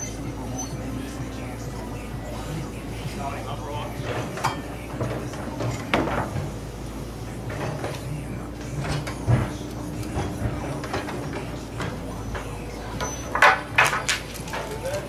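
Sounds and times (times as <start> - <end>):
timber trusses knocking and clattering: 0.0 - 15.0.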